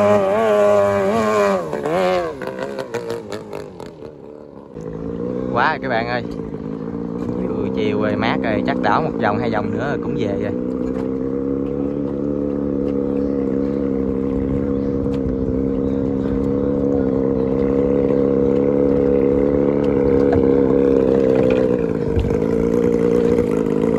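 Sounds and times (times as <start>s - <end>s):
boat engine running: 0.0s - 23.9s.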